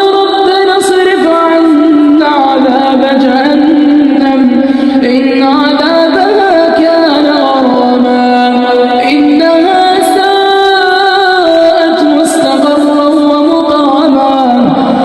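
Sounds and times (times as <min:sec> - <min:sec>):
person reciting melodically: 0:00.0 - 0:15.0.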